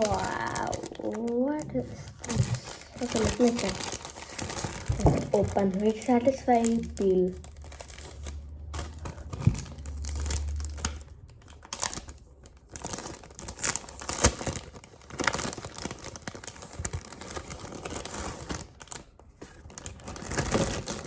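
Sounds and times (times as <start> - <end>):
gift wrapper crinkling: 0.0 - 21.0.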